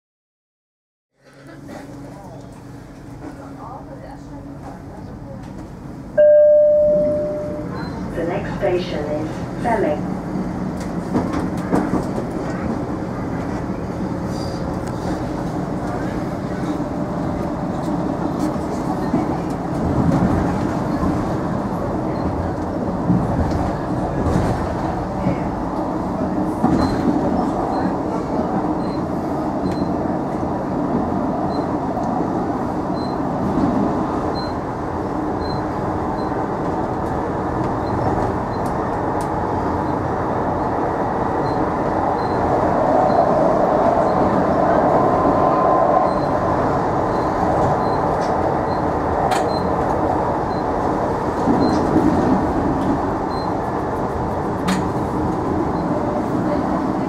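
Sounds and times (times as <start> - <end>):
train wheels rumbling on rails: 1.2 - 57.0
rail clicks: 5.4 - 34.7, 35.4 - 57.0.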